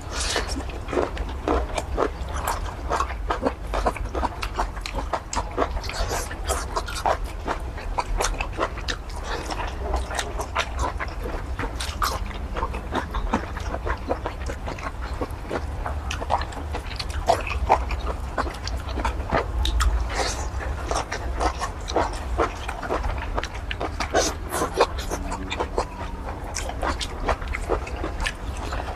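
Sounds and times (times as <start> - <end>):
person chewing and slurping: 0.0 - 28.9.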